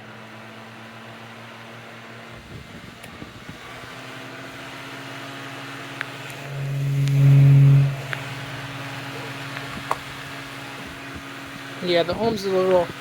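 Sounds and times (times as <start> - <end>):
box fan motor humming: 0.0 - 13.0.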